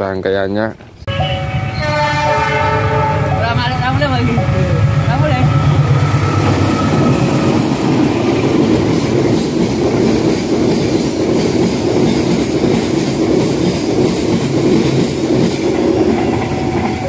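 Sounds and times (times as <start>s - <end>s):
diesel locomotive engine hum: 1.1s - 17.0s
train wheels rattling on rails: 2.3s - 17.0s.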